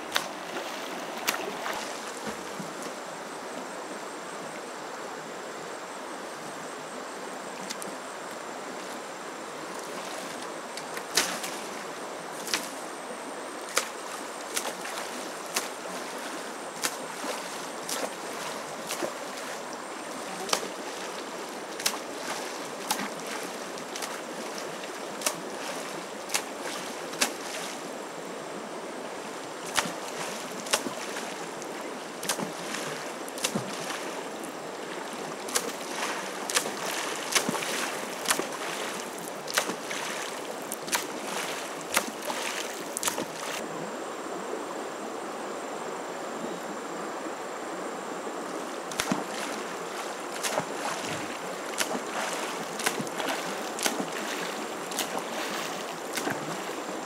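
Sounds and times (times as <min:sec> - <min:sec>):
water splashes and slaps: 0:00.0 - 0:03.2, 0:07.6 - 0:28.0, 0:29.4 - 0:43.6, 0:48.6 - 0:57.0
river rushing: 0:00.0 - 0:06.4, 0:07.0 - 0:46.2, 0:46.9 - 0:57.0.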